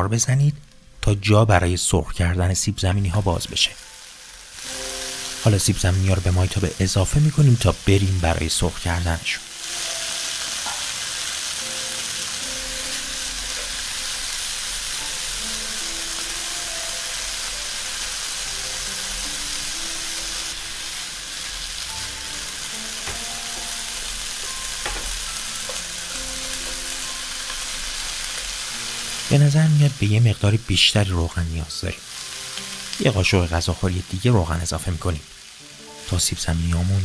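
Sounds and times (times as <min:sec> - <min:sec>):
soft background music: 0:00.0 - 0:37.0
food sizzling in oil: 0:02.9 - 0:37.0.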